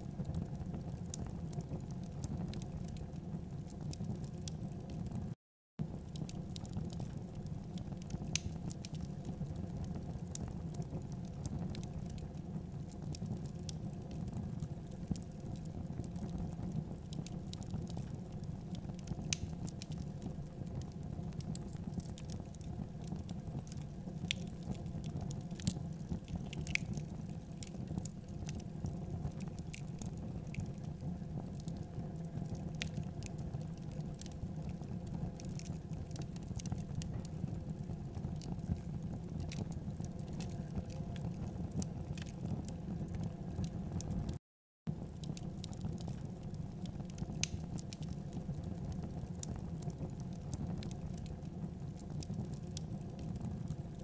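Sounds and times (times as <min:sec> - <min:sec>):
light crackles and ticks: 0:00.0 - 0:54.0.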